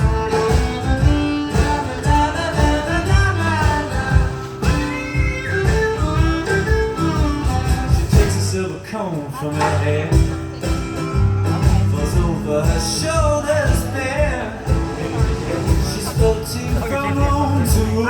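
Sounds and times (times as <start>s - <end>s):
bass: 0.0s - 18.0s
steady drum beat: 0.0s - 18.0s.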